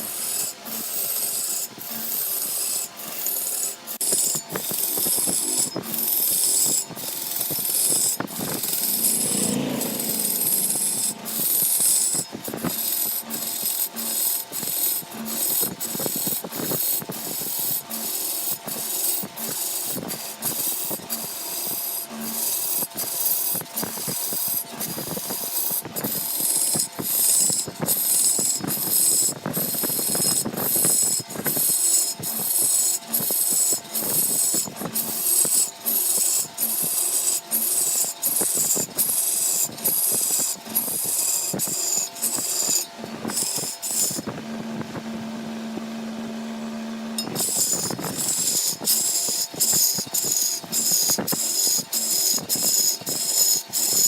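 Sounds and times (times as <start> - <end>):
tool scraping wood: 0.0 - 44.3, 47.2 - 54.0.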